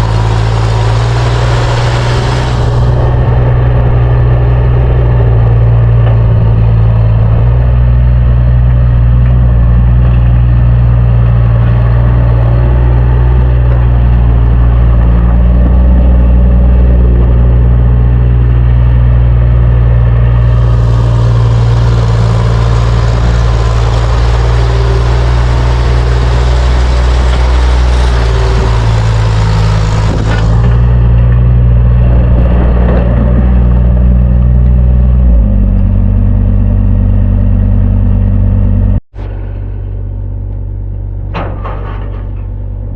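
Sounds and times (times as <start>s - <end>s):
engine humming under load: 0.0s - 42.9s.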